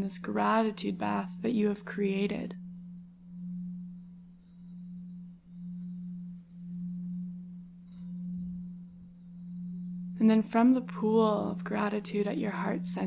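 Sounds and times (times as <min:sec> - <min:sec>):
low pulsing drone tone: 0:00.0 - 0:13.0.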